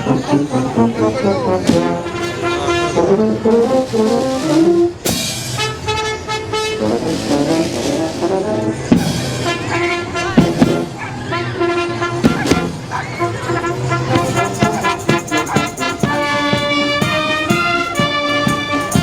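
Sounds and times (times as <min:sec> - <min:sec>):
brass music with held notes: 0:00.0 - 0:19.0.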